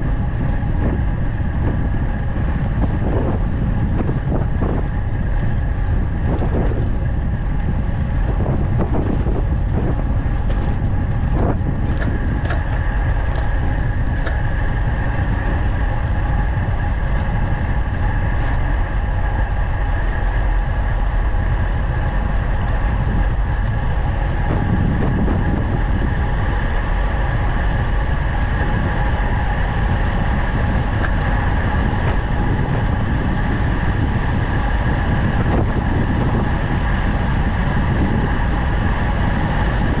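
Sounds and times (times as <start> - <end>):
high whine: 0.0 - 40.0
wind rushing over microphone: 0.0 - 40.0.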